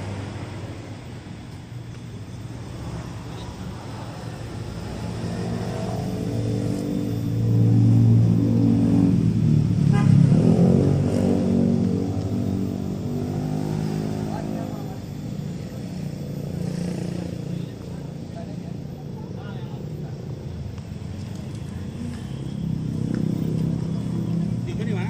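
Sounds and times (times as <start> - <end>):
motor vehicle engine running: 0.0 - 25.0.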